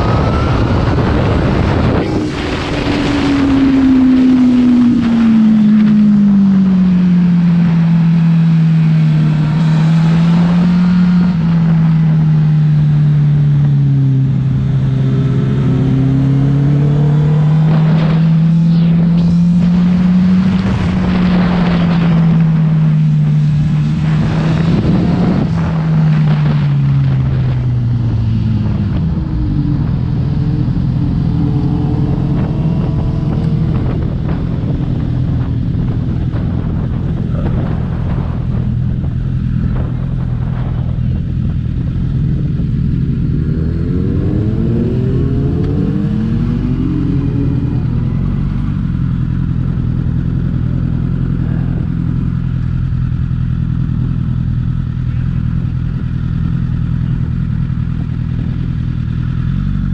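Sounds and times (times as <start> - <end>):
higher engine note: 0.0 - 59.9
motorcycle engine running: 0.0 - 59.9.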